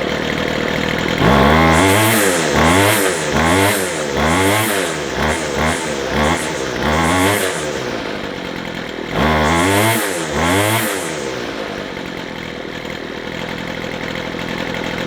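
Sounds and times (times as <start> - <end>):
strimmer engine revving and idling: 0.0 - 15.0.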